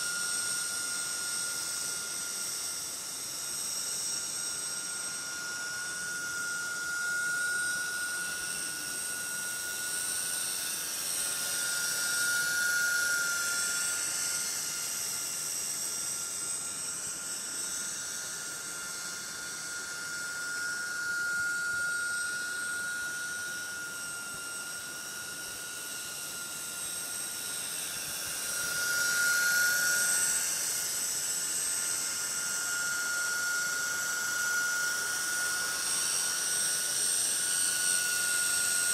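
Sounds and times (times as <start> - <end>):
rc helicopter whine: 0.0 - 38.9.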